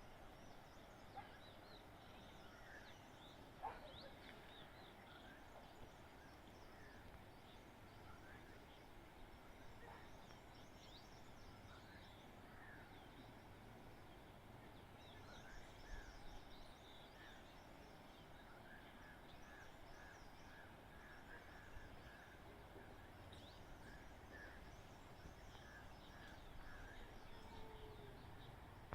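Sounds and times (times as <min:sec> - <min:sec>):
distant birds chirping: 0:00.0 - 0:28.9.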